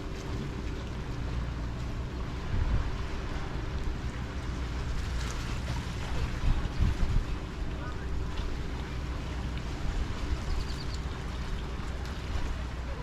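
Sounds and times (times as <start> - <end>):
wind buffeting microphone: 0.0 - 12.7
sea water washing: 0.0 - 13.0.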